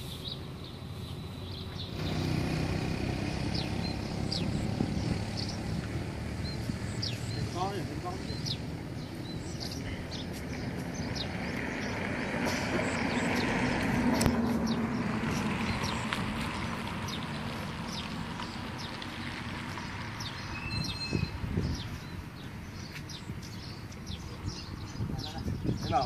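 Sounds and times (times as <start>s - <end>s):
bird chirps: 3.3s - 5.7s, 6.4s - 19.1s, 19.7s - 26.0s.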